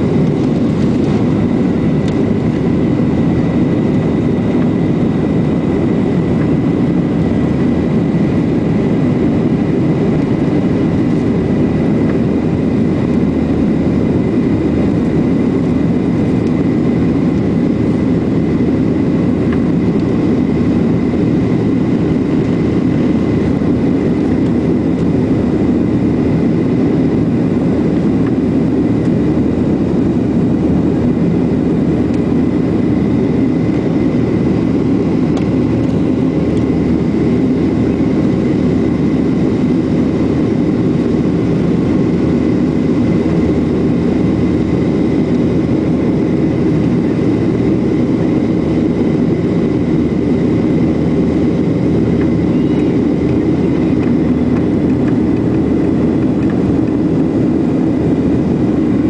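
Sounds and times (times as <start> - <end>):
jet engine cabin drone: 0.0 - 59.0.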